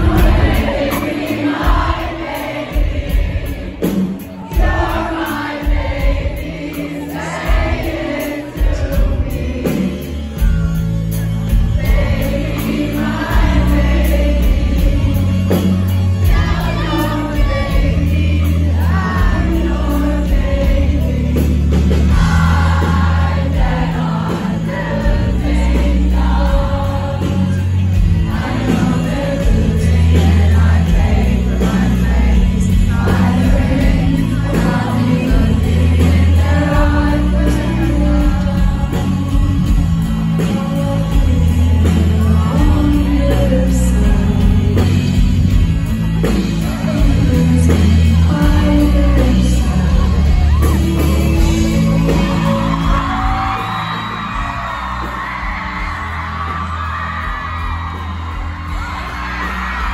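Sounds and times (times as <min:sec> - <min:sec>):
woman singing: 0:00.0 - 0:10.6, 0:11.5 - 0:54.7
live rock band playing: 0:00.0 - 0:59.9.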